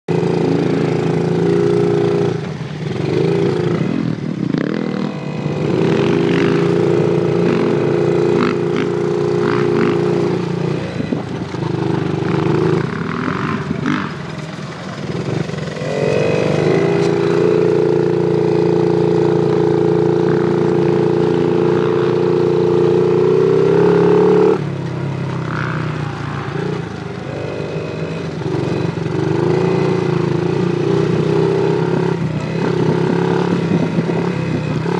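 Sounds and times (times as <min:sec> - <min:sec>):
small motorcycle engine running: 0:00.1 - 0:34.9.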